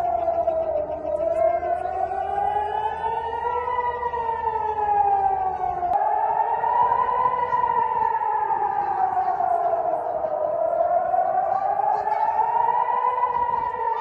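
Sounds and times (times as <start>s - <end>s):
air raid siren wailing: 0.0s - 14.0s.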